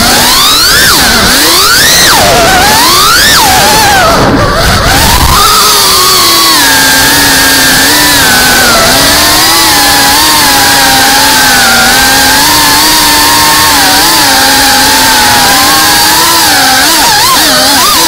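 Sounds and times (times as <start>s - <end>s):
drone motors and propellers buzzing: 0.0s - 18.0s.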